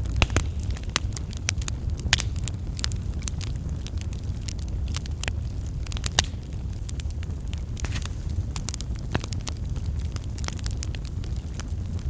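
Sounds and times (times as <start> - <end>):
burning logs popping and snapping: 0.0 - 12.0
low rumble of flames: 0.0 - 12.0.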